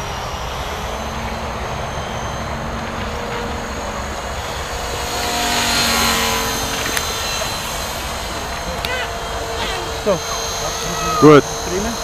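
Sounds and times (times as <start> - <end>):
rc helicopter rotor whirring: 0.0 - 12.0.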